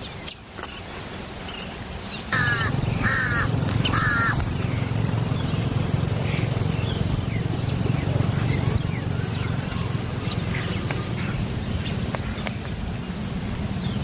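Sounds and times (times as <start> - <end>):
bird harsh calls: 1.6 - 14.0
steady low rumble: 2.3 - 14.0.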